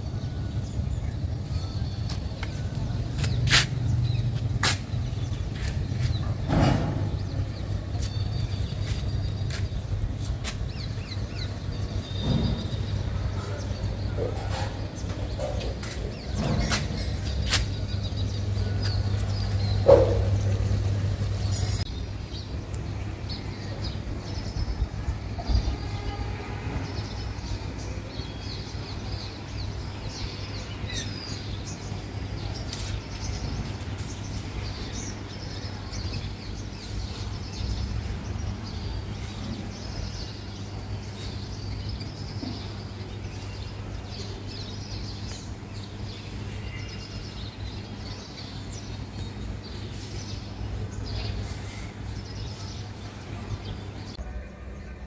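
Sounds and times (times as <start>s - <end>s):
small birds chirping: 0.0s - 25.9s, 26.9s - 55.0s.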